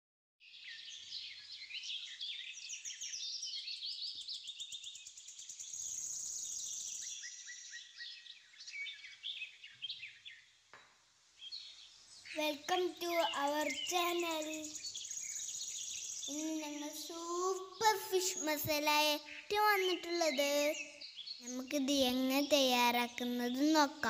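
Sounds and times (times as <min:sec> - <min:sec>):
small birds chirping: 0:00.4 - 0:24.0.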